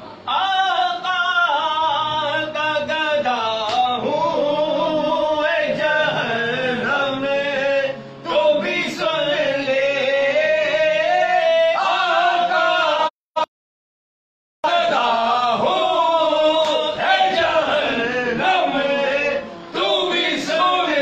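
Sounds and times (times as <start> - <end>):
man singing devotional verse: 0.3 - 13.1, 14.6 - 21.0.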